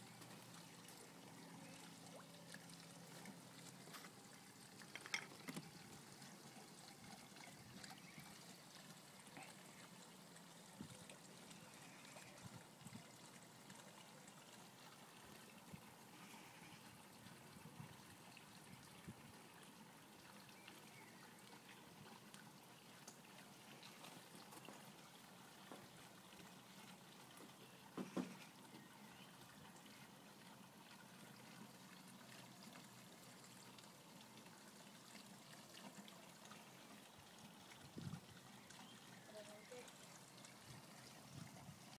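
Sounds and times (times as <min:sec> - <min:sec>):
water trickling in a pond: 0:00.0 - 0:41.9.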